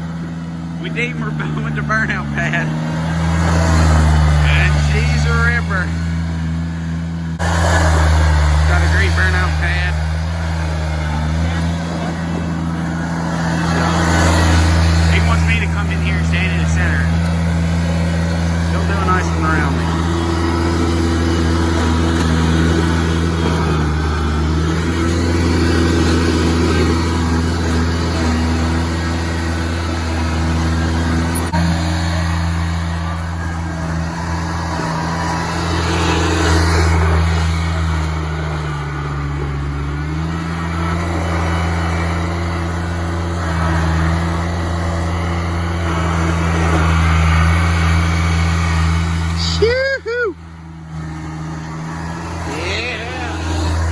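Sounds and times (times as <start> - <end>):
mower engine running: 0.0 - 53.9.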